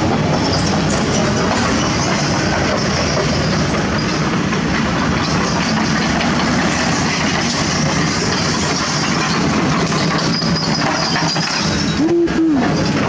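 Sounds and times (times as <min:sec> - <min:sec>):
dump truck engine running: 0:00.0 - 0:13.0.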